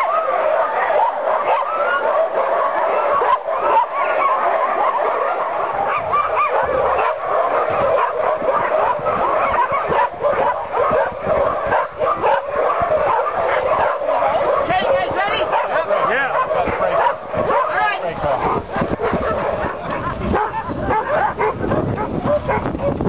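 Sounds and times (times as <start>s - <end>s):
dogs barking and yipping: 0.0s - 23.0s.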